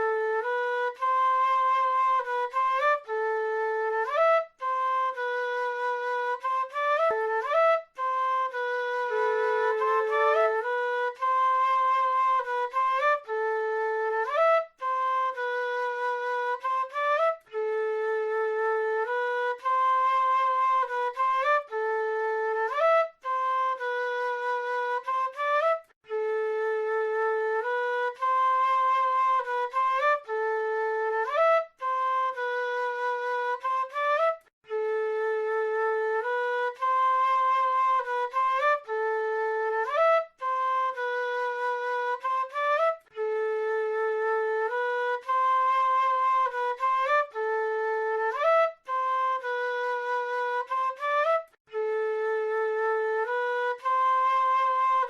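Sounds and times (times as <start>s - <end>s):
flute playing slow melody: 0.0s - 55.0s.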